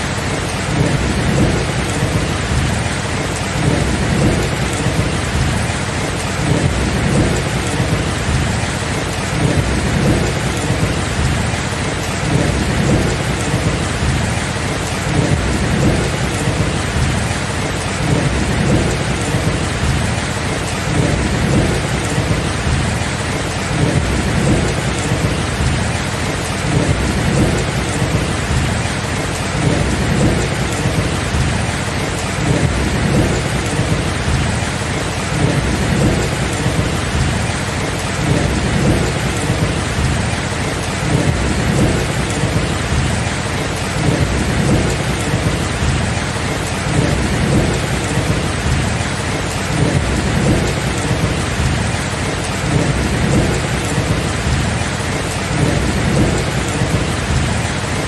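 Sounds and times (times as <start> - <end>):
heavy rain: 0.0 - 58.0
low rolling thunder: 0.0 - 58.0.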